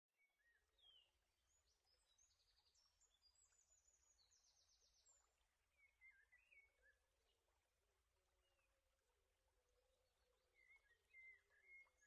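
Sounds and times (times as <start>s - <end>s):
faint birdsong: 0.2s - 12.0s.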